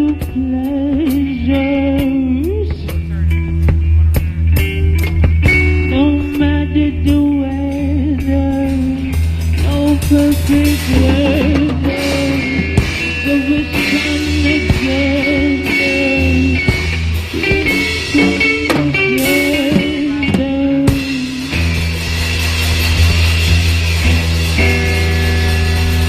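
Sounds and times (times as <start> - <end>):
psychedelic rock music: 0.0 - 26.0.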